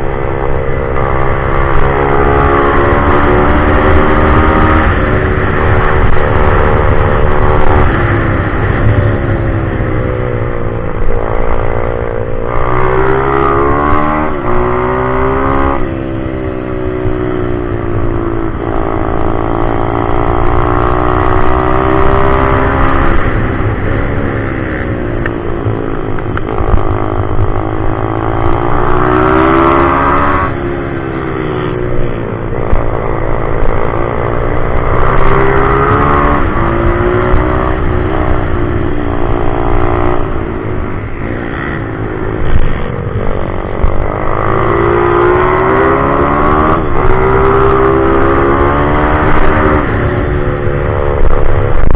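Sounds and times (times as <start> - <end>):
pit bike engine revving: 0.0 - 16.2, 25.6 - 51.9.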